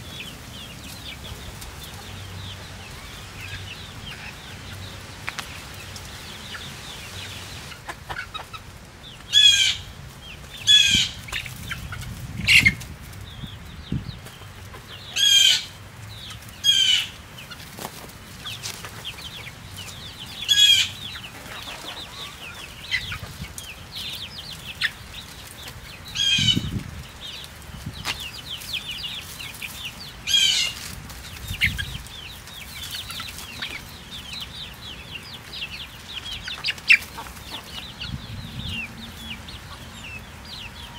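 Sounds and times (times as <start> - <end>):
chickens chirping and clucking: 0.0 - 40.9
chickens loud high calls: 0.0 - 40.9.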